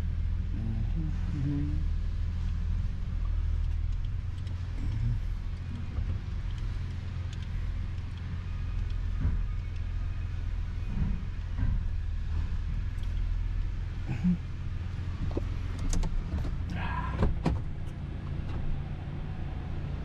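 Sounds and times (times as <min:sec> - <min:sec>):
pickup engine rumbling: 0:00.0 - 0:20.0.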